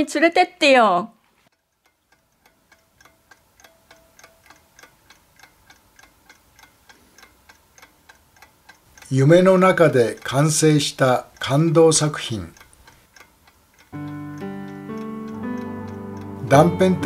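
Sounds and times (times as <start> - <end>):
clock ticking: 1.5 - 17.0.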